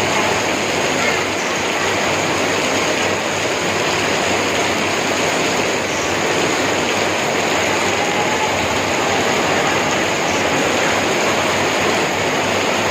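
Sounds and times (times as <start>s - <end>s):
heavy rain pouring: 0.0s - 12.9s.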